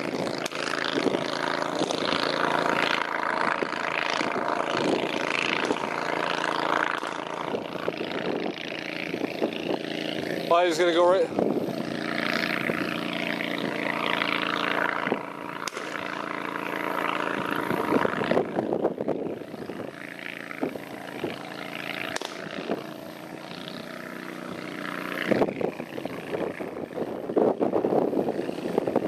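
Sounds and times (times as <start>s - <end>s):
boat motor droning: 0.0s - 29.0s.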